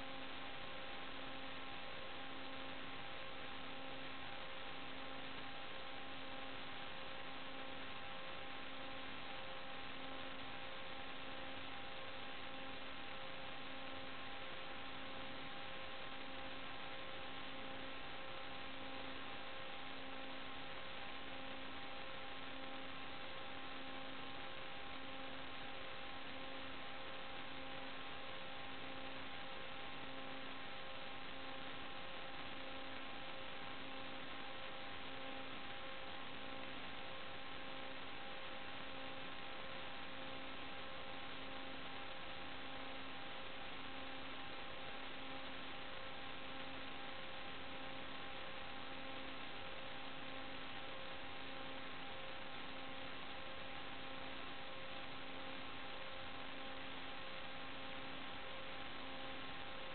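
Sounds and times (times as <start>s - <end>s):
electrical hiss and hum: 0.0s - 59.9s.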